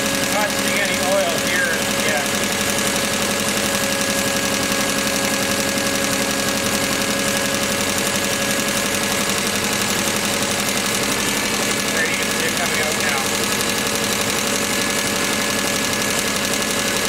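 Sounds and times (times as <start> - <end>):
car engine idling: 0.0 - 17.0
valve train ticking: 0.0 - 17.0.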